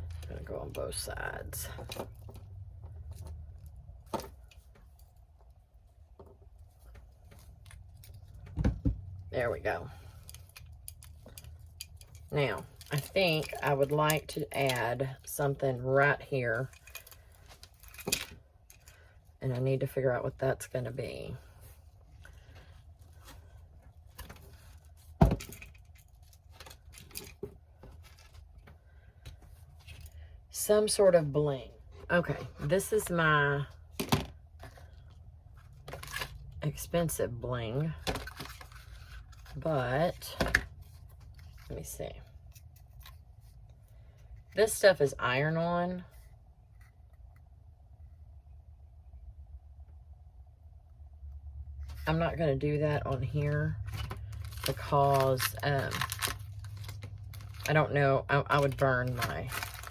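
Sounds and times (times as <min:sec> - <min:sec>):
rummaging through small items: 0:00.0 - 0:19.7, 0:20.6 - 0:47.3, 0:51.8 - 0:59.9
low steady hum: 0:00.0 - 0:59.9.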